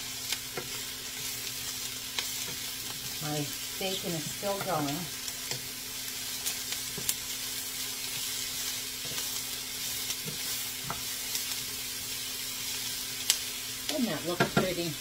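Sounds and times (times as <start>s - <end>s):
vegetables sizzling in a skillet: 0.0s - 15.0s.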